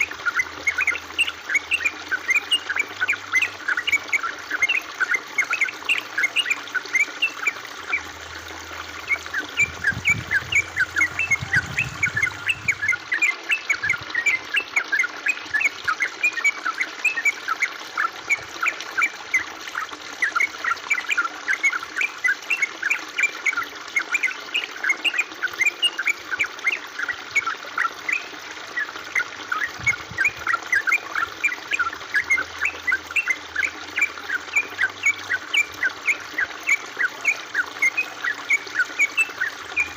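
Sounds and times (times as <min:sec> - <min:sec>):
high bubbling plinks: 0:00.0 - 0:39.9
water trickling and gurgling: 0:00.0 - 0:39.9.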